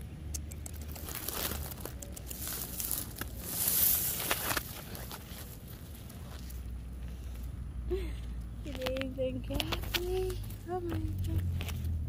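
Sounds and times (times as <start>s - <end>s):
grass rustling and crackling: 0.3s - 7.5s, 8.6s - 12.0s.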